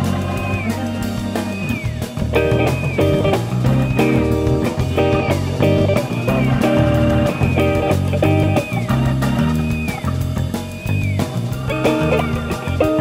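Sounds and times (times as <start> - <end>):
bass guitar: 0.0 - 13.0
drum kit: 0.0 - 13.0
electric guitar phrases: 0.0 - 13.0.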